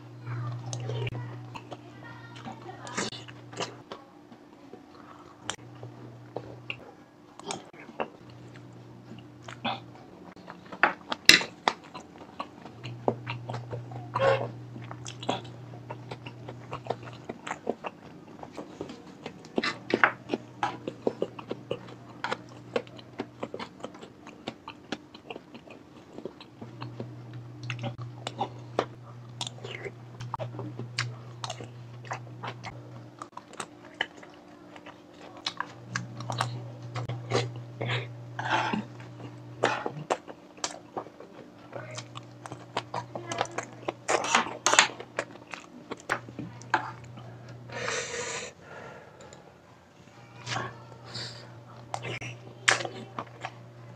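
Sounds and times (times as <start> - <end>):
wet chewing with crunches: 4.7 - 47.6, 50.1 - 53.9.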